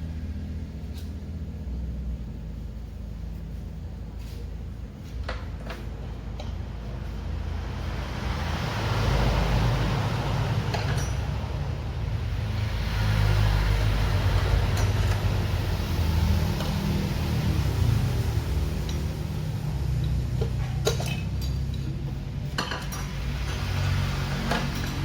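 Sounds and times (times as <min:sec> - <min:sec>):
engine rumbling: 0:00.0 - 0:25.0.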